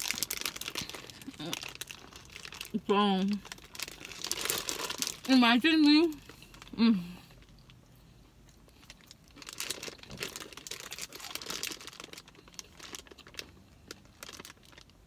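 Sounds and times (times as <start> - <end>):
chip bag crinkling: 0.0 - 6.7, 8.7 - 15.0.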